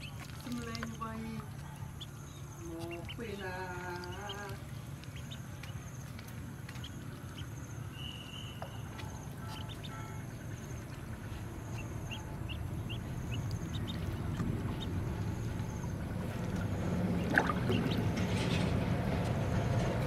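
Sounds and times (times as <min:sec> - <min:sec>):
ducklings peeping: 0:00.0 - 0:18.2
steady low rumble: 0:00.0 - 0:20.0.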